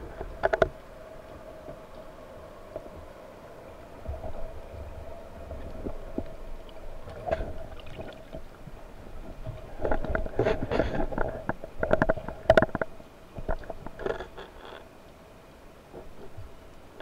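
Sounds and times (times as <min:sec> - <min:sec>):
low underwater rumble: 0:00.0 - 0:14.0.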